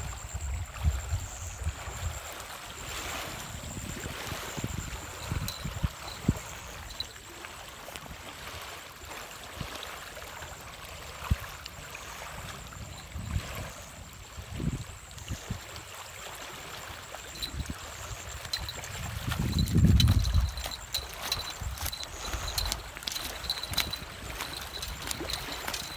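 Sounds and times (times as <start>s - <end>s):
small waves lapping on pebbles: 1.3s - 25.9s.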